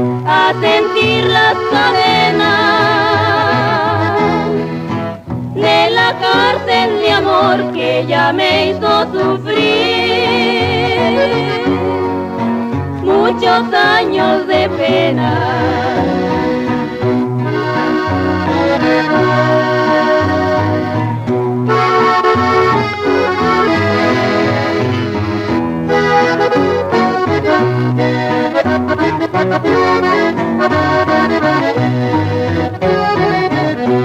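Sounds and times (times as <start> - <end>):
accordion melody: 0.0 - 34.0
bass line: 0.0 - 34.0.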